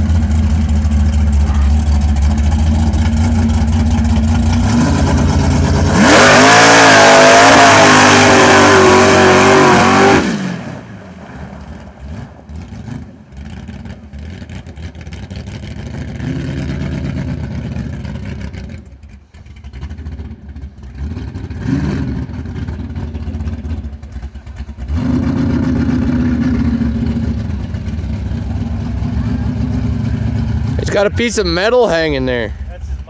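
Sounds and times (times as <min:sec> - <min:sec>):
pickup truck engine revving: 0:00.0 - 0:33.0.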